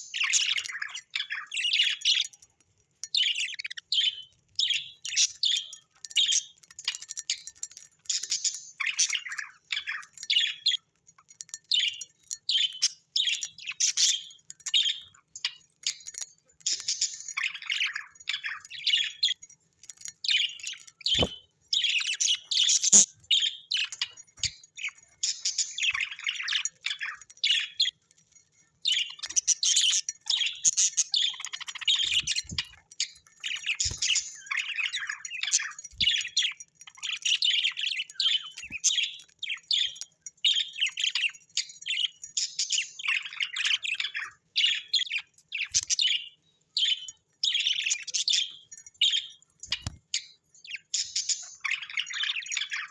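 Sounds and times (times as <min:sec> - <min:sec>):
parrots chirping and chattering: 0:00.0 - 0:52.9.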